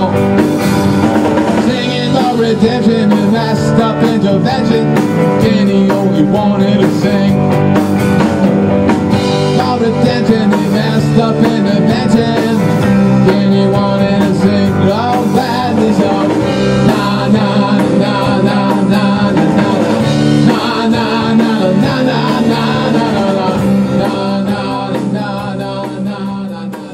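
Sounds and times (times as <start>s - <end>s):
man singing: 0.0s - 0.8s, 1.4s - 7.8s, 9.2s - 26.9s
drum kit with cymbals: 0.0s - 26.9s
electric guitar: 0.0s - 26.9s.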